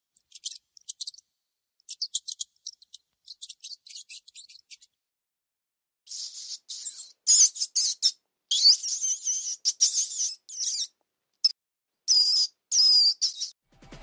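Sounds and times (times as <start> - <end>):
mouse squeaking: 0.2 - 1.2, 1.8 - 4.9, 6.1 - 13.6.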